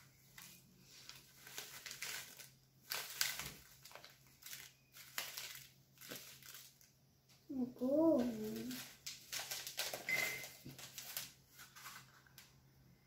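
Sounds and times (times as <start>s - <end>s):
paper packet crinkling: 0.2s - 7.0s, 8.1s - 12.5s.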